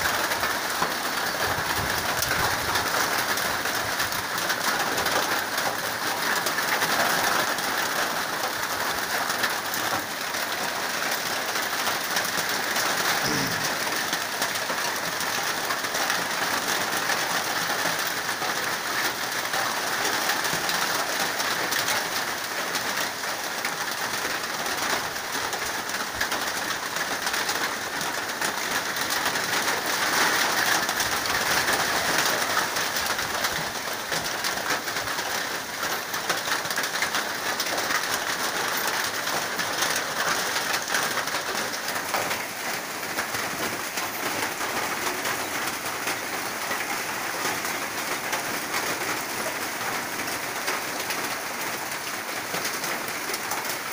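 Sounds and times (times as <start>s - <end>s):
rain on a metal roof: 0.0s - 53.9s.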